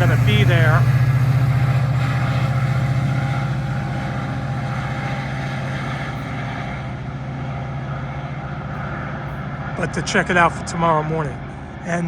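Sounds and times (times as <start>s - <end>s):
train locomotive humming and throbbing: 0.0s - 12.0s.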